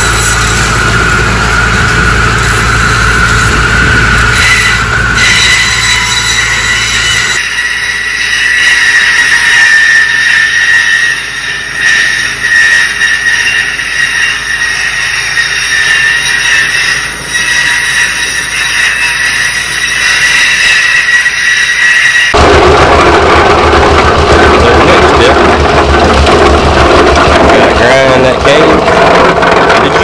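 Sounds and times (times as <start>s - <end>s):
cane cutting machine whining: 0.0s - 30.0s.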